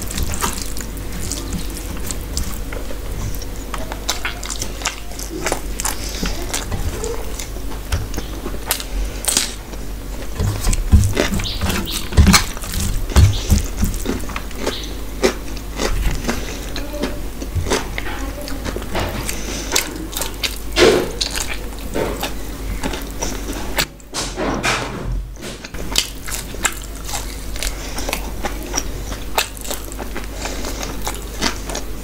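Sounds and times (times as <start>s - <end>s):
wet chewing and smacking: 0.0s - 24.0s, 25.4s - 32.0s.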